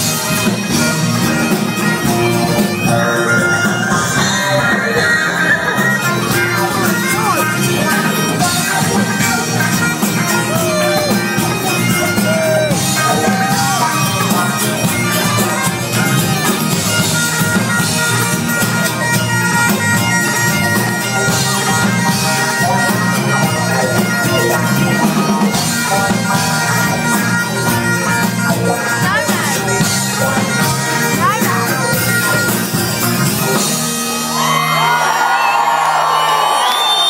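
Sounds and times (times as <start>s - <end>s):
bagpipes with drone: 0.0s - 37.0s
live band playing: 0.0s - 37.0s.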